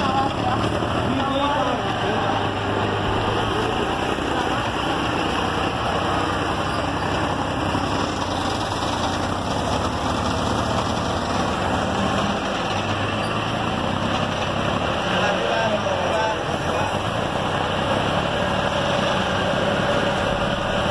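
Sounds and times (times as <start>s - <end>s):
forklift engine running: 0.0s - 20.9s.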